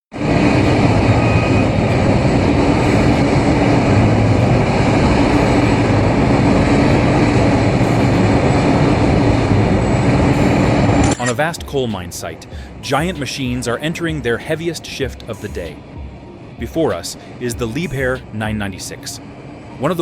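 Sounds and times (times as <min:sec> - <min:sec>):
large diesel engine rumbling: 0:00.1 - 0:20.0.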